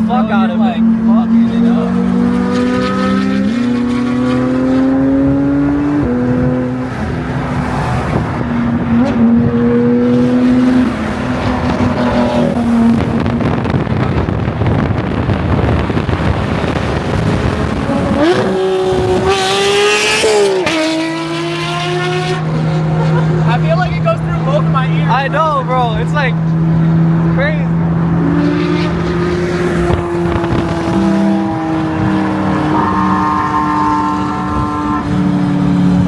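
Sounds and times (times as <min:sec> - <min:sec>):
sports car engine revving: 0:00.0 - 0:36.0.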